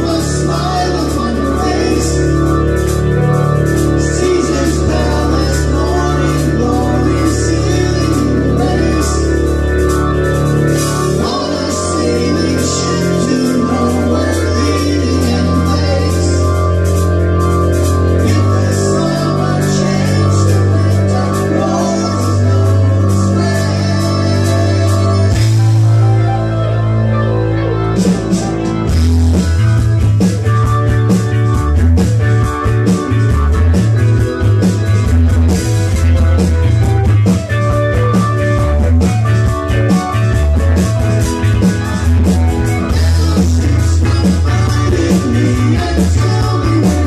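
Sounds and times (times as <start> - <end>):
keyboard chords: 0.0 - 47.0
live rock band playing: 0.0 - 47.0
low bass notes: 0.0 - 47.0.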